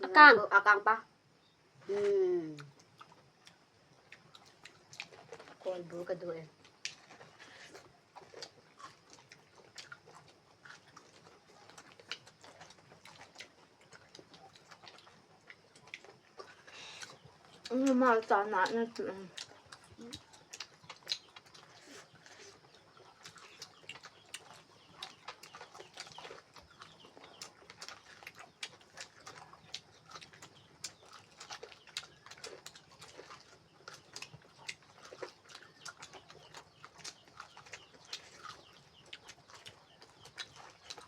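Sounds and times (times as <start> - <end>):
chewing and mouth clicks: 2.5 - 41.0.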